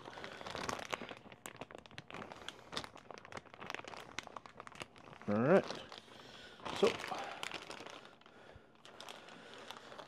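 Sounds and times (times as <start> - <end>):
plastic parts clicking and crinkling: 0.0 - 10.0.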